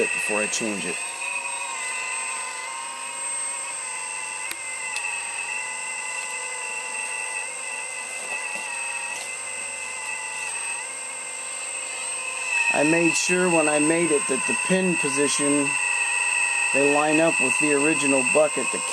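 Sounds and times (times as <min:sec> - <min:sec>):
hydraulic pump whining: 0:00.0 - 0:18.9.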